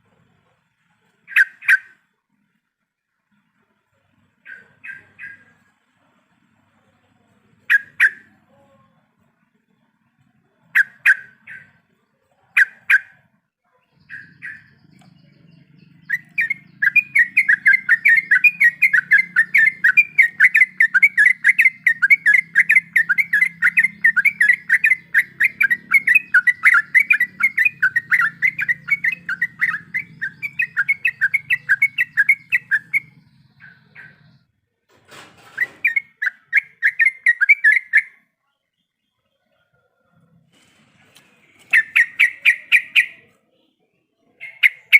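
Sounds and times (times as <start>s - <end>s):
bird singing rolling chirps: 0.0s - 34.8s, 35.4s - 44.9s.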